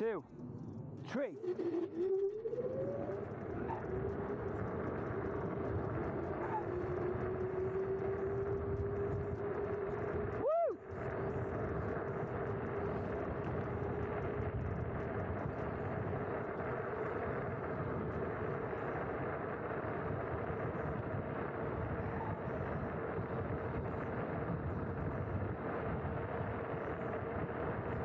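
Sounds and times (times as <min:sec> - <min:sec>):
road noise: 0:00.0 - 0:28.0
wind rushing over microphone: 0:00.0 - 0:28.0
electric motor whine: 0:01.0 - 0:28.0.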